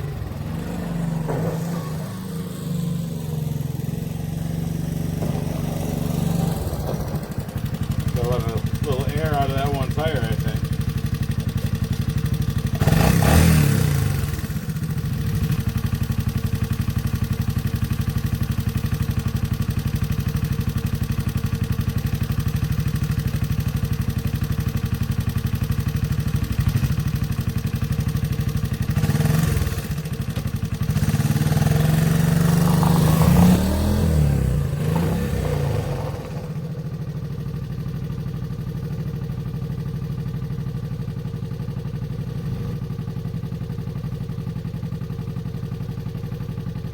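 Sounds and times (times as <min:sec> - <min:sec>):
four-stroke engine revving and idling: 0:00.0 - 0:46.9.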